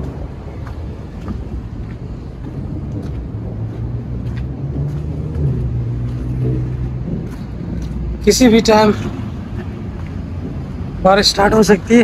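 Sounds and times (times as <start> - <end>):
low rumble: 0.0 - 11.2
vehicle engine humming: 0.0 - 12.0.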